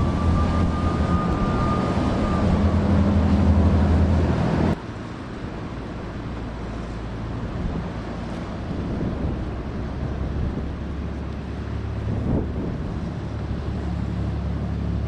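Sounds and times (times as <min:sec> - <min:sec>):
wind noise on microphone: 0:00.0 - 0:04.8, 0:07.4 - 0:15.0
boat engines droning: 0:00.0 - 0:15.0.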